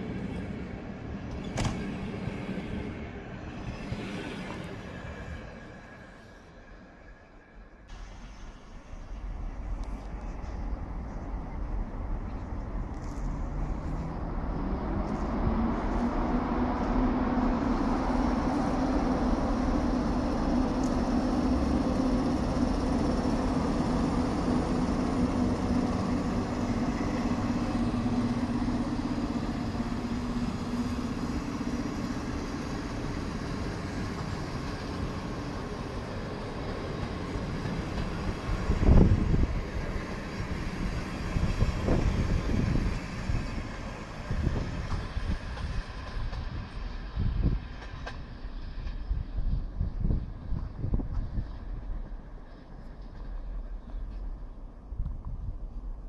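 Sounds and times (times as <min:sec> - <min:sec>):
electric train humming: 0:00.0 - 0:56.0.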